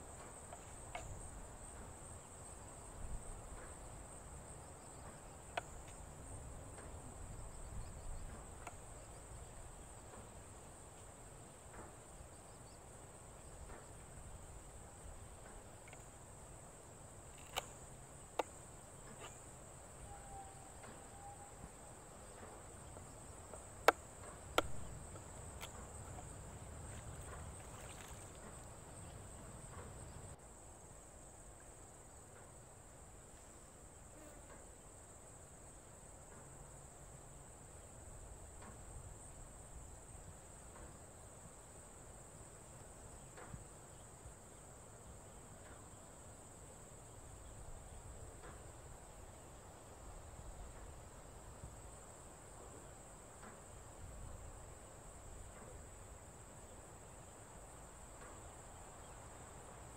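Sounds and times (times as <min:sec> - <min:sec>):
insect drone: 0:00.0 - 0:59.9.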